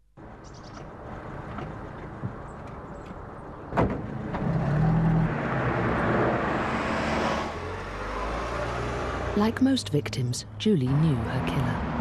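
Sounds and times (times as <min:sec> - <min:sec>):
car engine and road rumble: 0:00.1 - 0:12.0.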